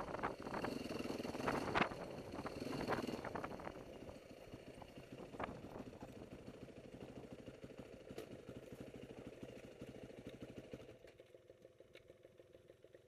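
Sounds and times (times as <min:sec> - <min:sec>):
dirt bike engines idling: 0:00.0 - 0:13.0.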